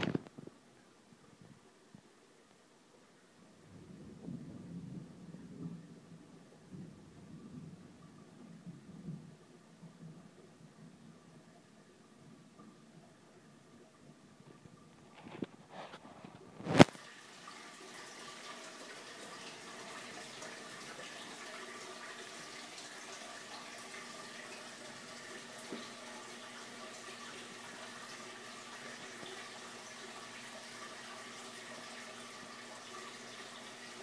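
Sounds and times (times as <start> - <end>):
water running through aquarium: 0.0 - 34.0.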